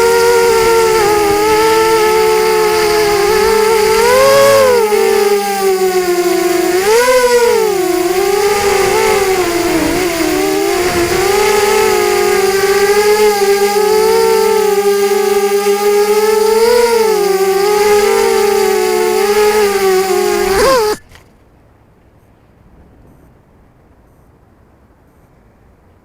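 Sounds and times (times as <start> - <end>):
drone motors whining: 0.0 - 21.1.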